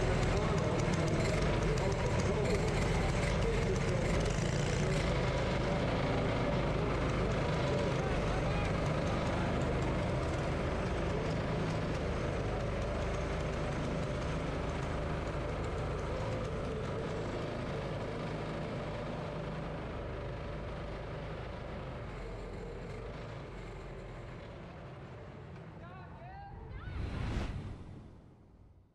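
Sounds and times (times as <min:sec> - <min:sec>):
go-kart engines droning: 0:00.0 - 0:27.2.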